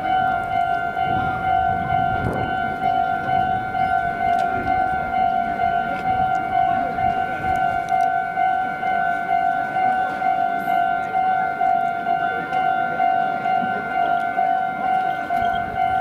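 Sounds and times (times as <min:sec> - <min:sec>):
level-crossing alarm dinging: 0:00.0 - 0:16.0.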